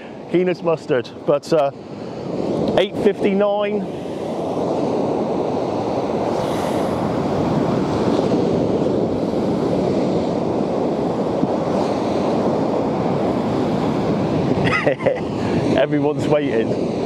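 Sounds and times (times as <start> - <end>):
sea surf breaking: 0.0 - 17.0
wind on microphone: 0.0 - 17.0.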